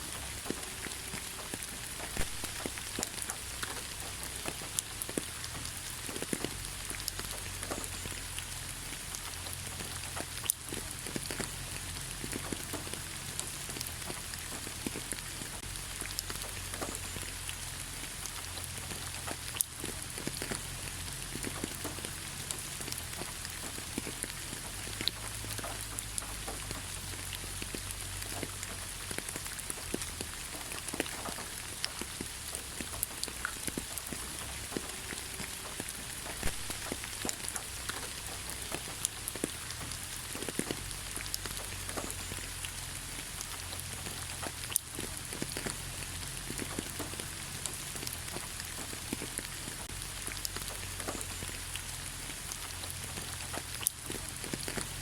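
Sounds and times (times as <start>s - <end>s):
rain falling on leaves: 0.0s - 55.0s.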